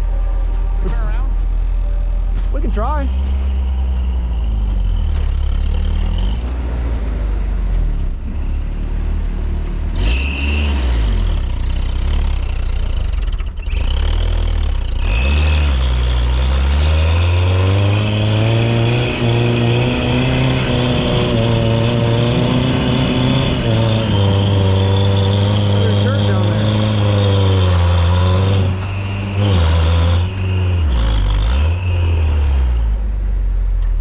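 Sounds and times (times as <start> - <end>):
off-road truck engine revving: 0.0 - 34.0.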